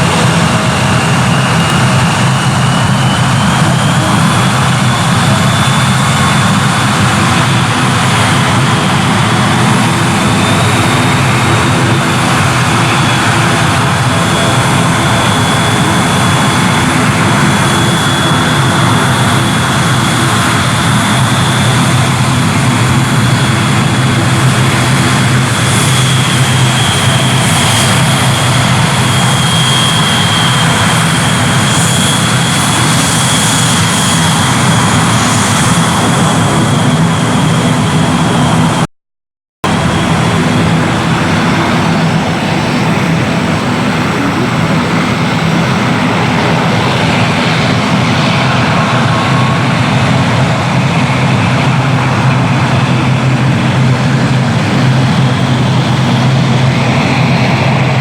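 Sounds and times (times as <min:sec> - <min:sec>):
airliner engines whining: 0:00.0 - 0:38.9, 0:39.6 - 0:58.0.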